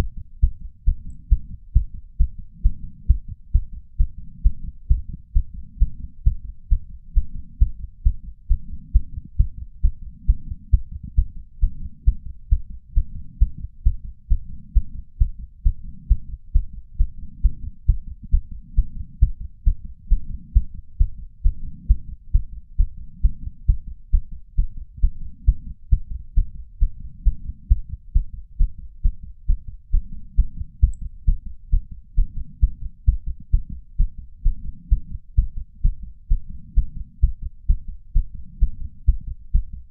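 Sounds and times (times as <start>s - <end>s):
heart beating fast: 0.0s - 39.9s.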